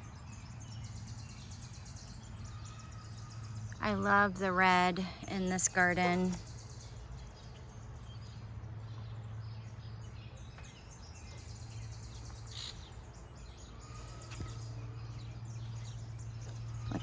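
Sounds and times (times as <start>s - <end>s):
low background hum: 0.0s - 17.0s
small birds chirping: 0.0s - 17.0s.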